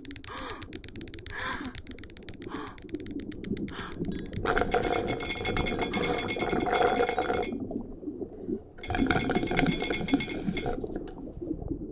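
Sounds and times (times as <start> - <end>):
rattling slurp through hose: 0.0 - 7.6, 8.8 - 11.2.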